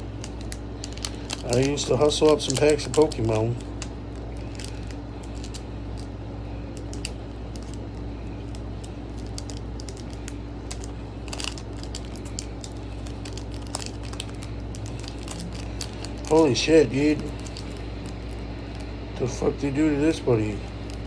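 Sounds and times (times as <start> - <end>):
plastic wrapper crinkling: 0.0 - 19.0, 20.1 - 21.0
steady low hum: 0.0 - 21.0.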